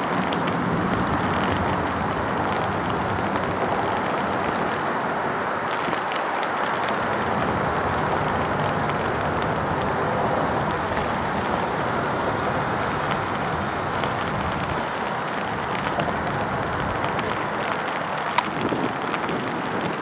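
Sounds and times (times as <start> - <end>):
rain ticks: 0.0 - 20.0.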